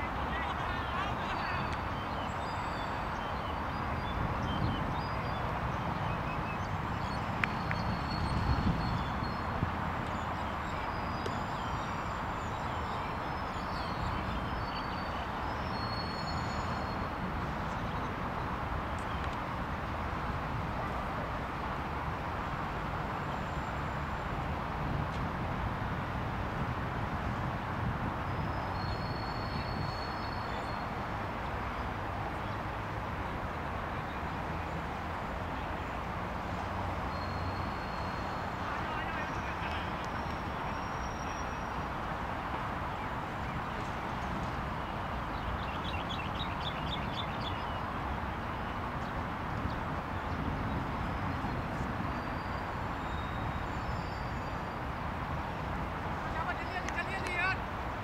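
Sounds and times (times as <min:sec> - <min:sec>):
distant road traffic hum: 0:00.0 - 0:58.0.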